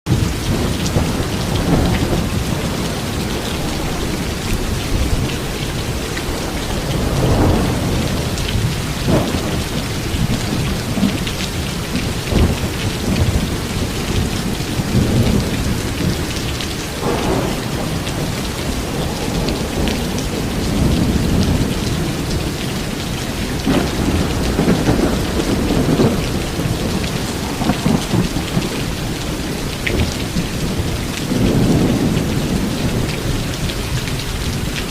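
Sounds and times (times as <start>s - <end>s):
heavy rain pouring: 0.1s - 34.9s
strong wind: 0.1s - 34.9s.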